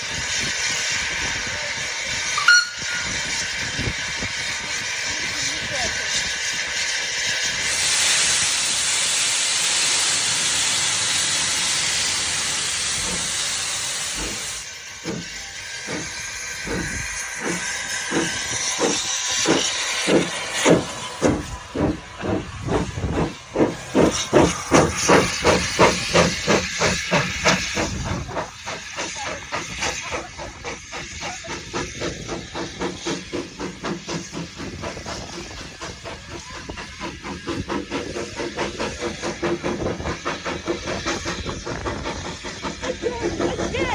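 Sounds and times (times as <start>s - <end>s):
steam hissing: 0.0s - 43.9s
steam locomotive exhaust chuffs: 0.0s - 43.9s.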